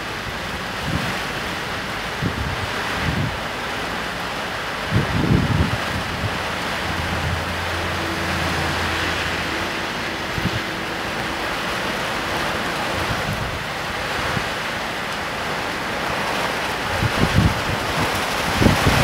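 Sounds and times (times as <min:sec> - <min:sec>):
heavy rain hissing: 0:00.0 - 0:19.0
wind buffeting microphone: 0:00.2 - 0:19.0.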